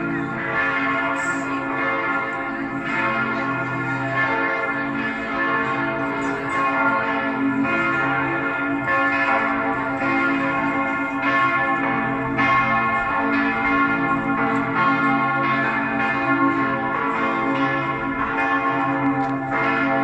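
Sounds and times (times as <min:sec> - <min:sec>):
church bells pealing: 0:00.0 - 0:20.0.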